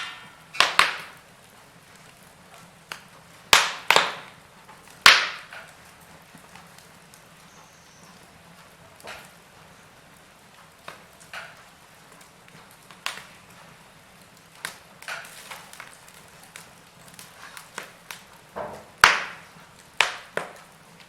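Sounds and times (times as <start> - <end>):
faint steady hiss: 0.0 - 21.0
wood fire crackling: 0.0 - 21.0.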